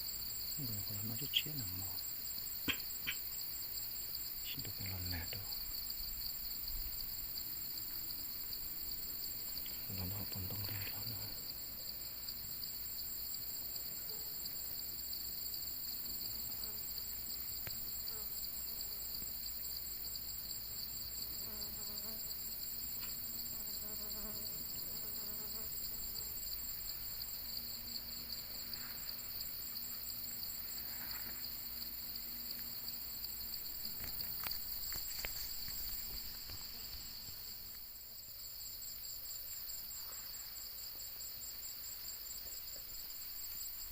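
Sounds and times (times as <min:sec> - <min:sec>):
crickets trilling: 0:00.0 - 0:43.9.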